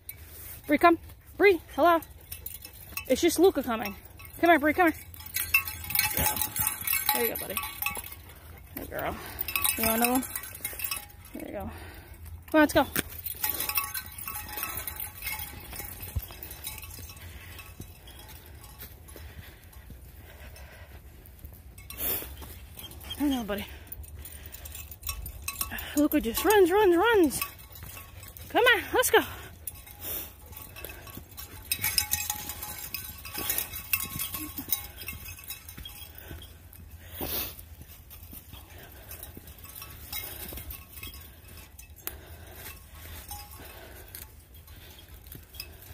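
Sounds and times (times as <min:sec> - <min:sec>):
light metal clinking: 0:00.0 - 0:45.9
light metallic jingling: 0:00.0 - 0:45.9.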